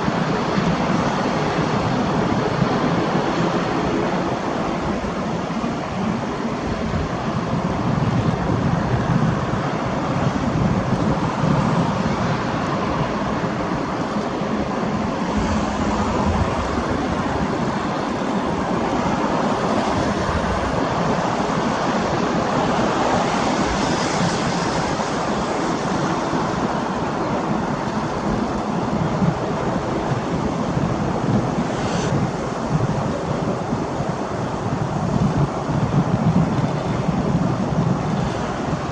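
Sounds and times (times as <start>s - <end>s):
turboprop engines rushing: 0.0s - 38.9s
wind on microphone: 0.0s - 38.9s.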